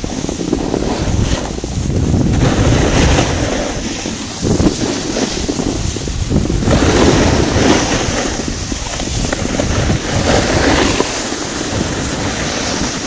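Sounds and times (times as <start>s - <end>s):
skis sliding on snow: 0.0s - 13.0s
wind buffeting microphone: 0.0s - 13.0s.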